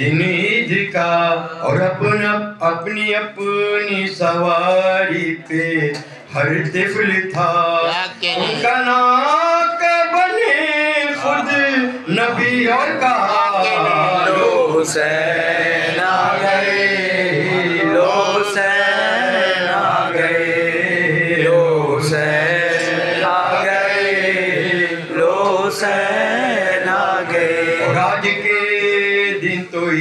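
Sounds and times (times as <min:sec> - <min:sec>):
man chanting into a microphone: 0:00.0 - 0:30.0.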